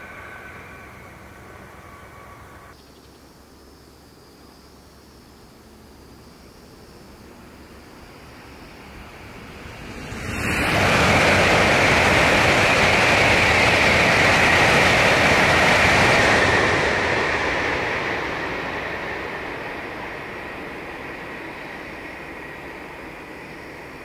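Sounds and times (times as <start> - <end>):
high whine of train: 0.0 - 2.8, 5.1 - 24.0
high-speed train passing: 0.0 - 2.8, 7.0 - 24.0.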